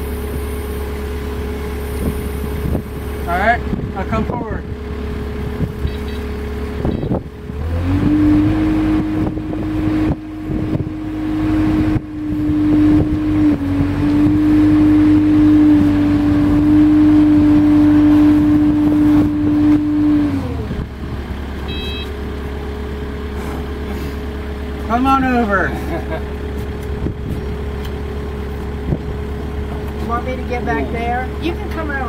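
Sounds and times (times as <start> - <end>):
diesel engine revving: 0.0 - 32.0.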